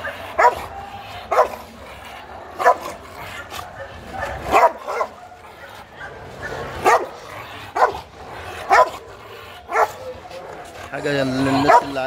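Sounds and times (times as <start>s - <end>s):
dog barking aggressively: 0.0s - 12.0s.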